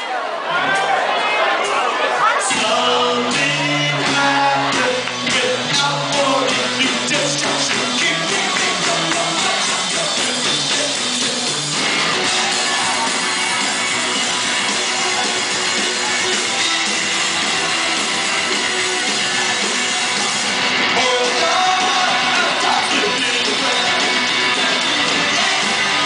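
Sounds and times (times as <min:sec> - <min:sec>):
drums: 0:02.4 - 0:26.0
person singing: 0:02.5 - 0:13.1, 0:14.0 - 0:26.0
electric guitar: 0:02.5 - 0:26.0.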